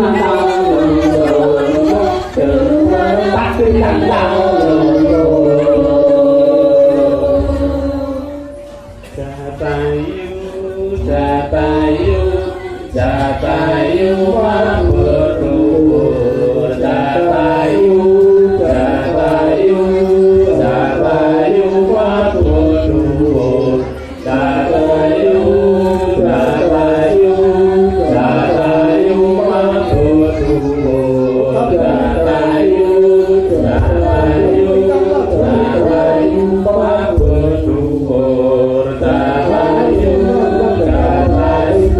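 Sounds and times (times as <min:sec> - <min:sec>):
voices singing chant-like melody: 0:00.0 - 0:41.9.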